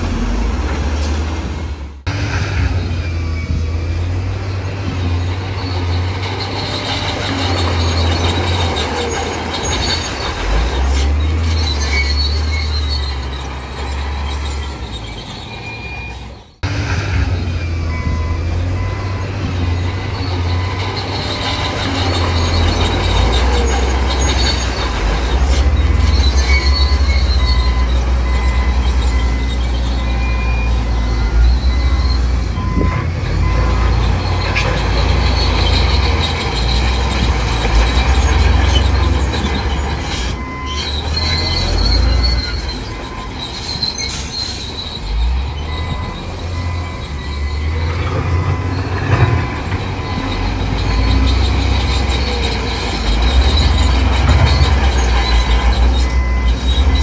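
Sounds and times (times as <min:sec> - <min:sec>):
bulldozer diesel engine under load: 0:00.0 - 0:57.0
crawler tracks squeaking: 0:02.6 - 0:57.0.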